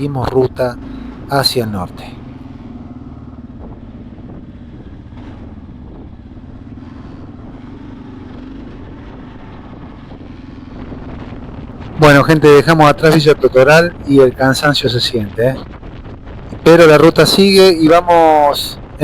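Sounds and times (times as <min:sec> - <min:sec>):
motorcycle engine running: 0:00.0 - 0:14.6, 0:15.2 - 0:19.0.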